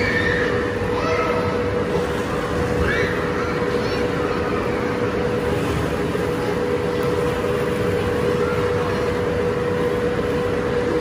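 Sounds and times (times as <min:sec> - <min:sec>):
steady mechanical drone: 0:00.0 - 0:11.0.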